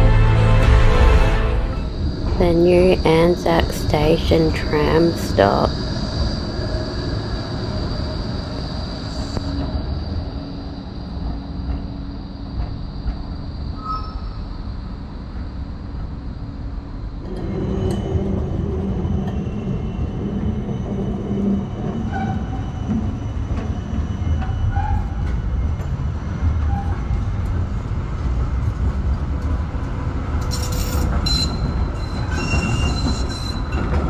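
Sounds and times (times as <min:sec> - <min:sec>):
tram rumbling on rails: 0:00.0 - 0:34.0.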